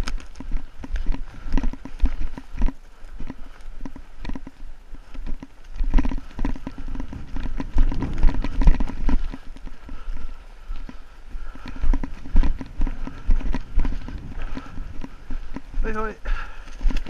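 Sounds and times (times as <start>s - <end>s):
footsteps through heather: 0.0s - 17.0s
vegetation rustling against clothing: 0.0s - 17.0s.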